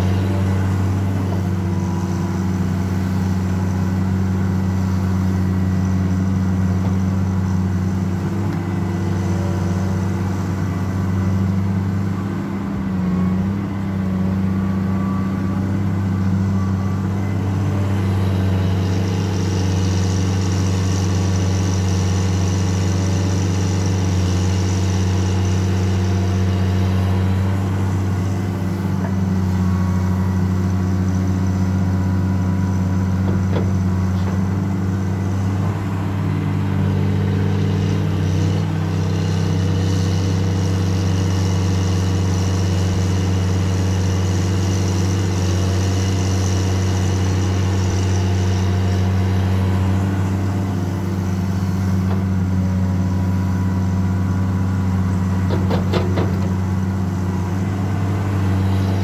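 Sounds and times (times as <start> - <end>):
excavator diesel engine under load: 0.0 - 59.0.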